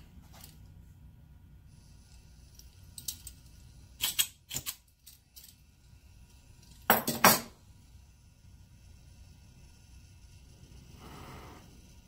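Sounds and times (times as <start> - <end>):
gas hissing from torch: 1.6 - 12.0.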